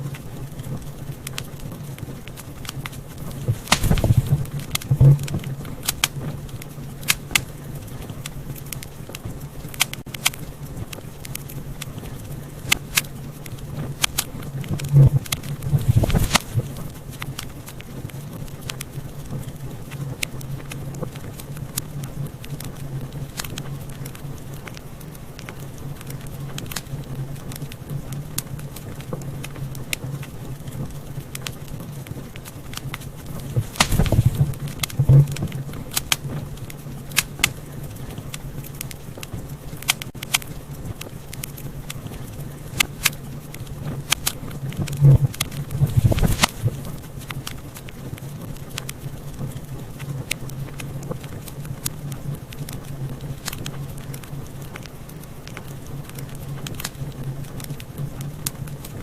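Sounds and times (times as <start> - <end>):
steady low hum: 0.0 - 59.0
wood fire crackling and popping: 0.0 - 59.0.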